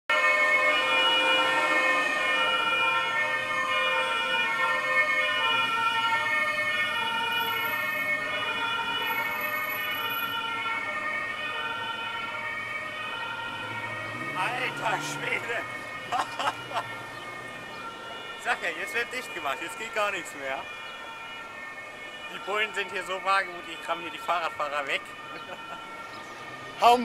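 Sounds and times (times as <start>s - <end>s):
police car two-tone siren: 0.1s - 27.0s.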